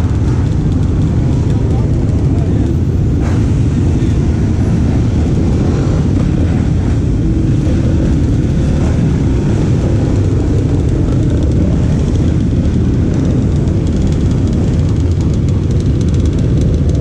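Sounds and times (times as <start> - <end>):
dirt bike and quad engines: 0.0 - 17.0.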